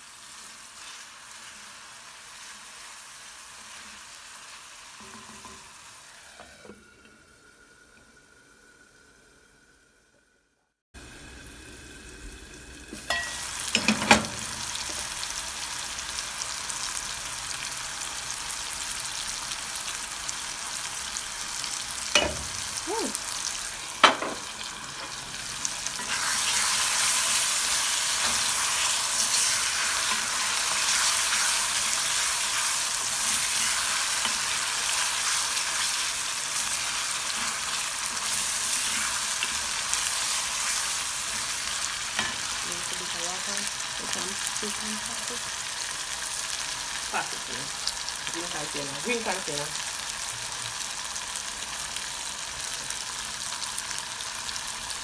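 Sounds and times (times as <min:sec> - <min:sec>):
gravy sizzling and bubbling: 0:00.0 - 0:10.3, 0:11.0 - 0:55.0.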